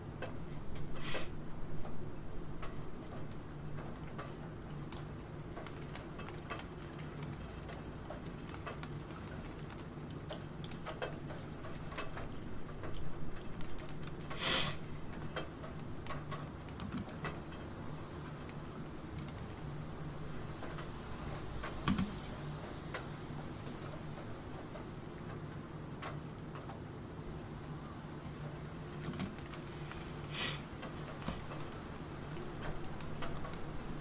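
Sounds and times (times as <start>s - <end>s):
rain: 0.0s - 34.0s.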